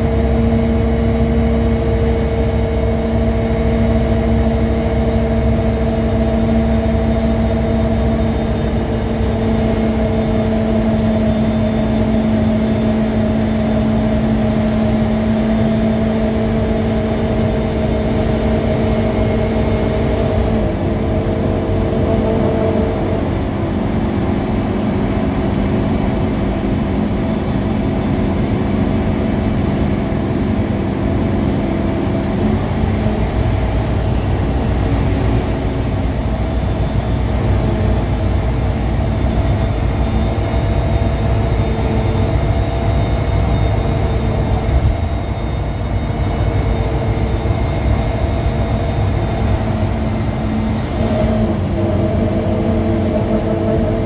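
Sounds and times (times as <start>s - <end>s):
bus engine hum: 0.0s - 54.0s
low road rumble: 0.0s - 54.0s.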